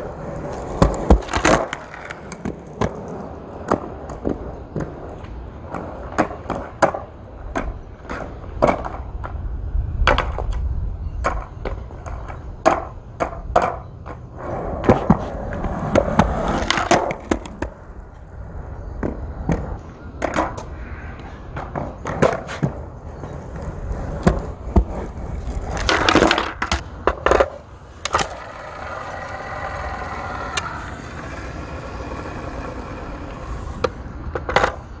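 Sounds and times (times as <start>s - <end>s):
skateboard clacks and knocks: 0.0s - 35.0s
skateboard rolling over pavement: 0.0s - 35.0s.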